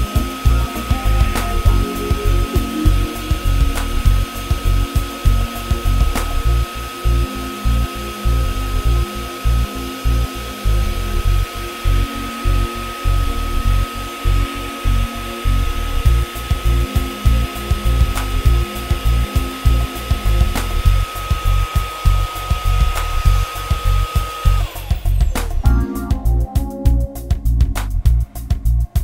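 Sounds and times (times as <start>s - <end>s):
hair dryer whining: 0.0s - 26.4s
music with bass beat: 0.0s - 29.0s.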